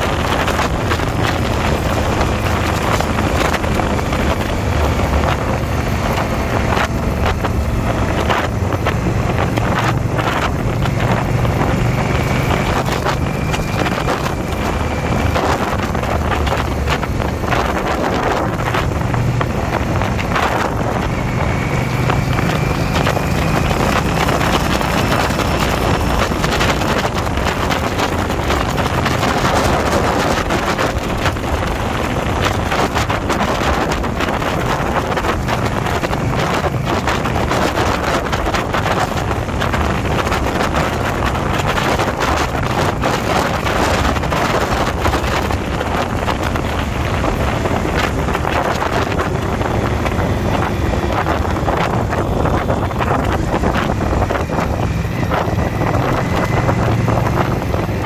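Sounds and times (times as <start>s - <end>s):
motorcycle engine running: 0.0s - 58.0s
wind buffeting on microphone: 0.0s - 58.0s.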